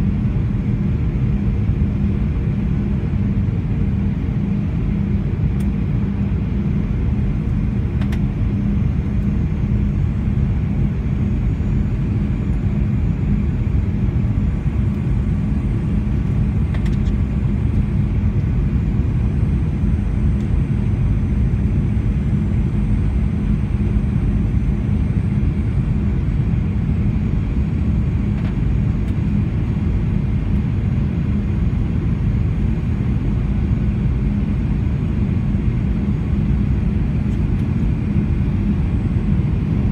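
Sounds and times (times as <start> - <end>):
airplane cabin rumble: 0.0 - 39.9
jet engine hum: 0.0 - 39.9.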